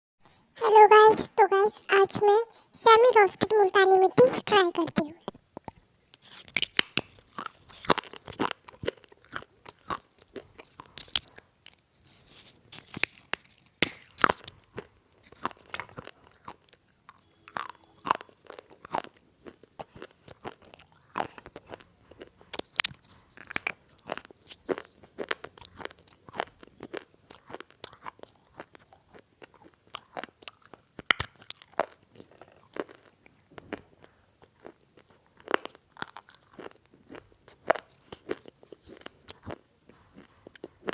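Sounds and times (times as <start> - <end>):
crunching and chewing clay: 5.2 - 40.9.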